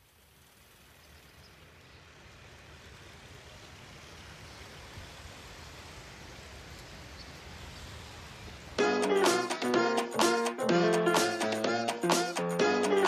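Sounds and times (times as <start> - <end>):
steady rushing noise: 2.0 - 13.0.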